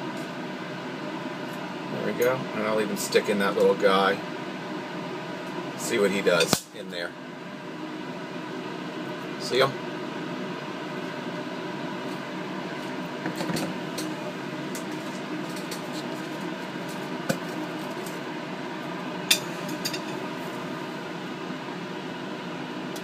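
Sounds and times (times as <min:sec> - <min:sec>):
steady fan hum: 0:00.0 - 0:23.0.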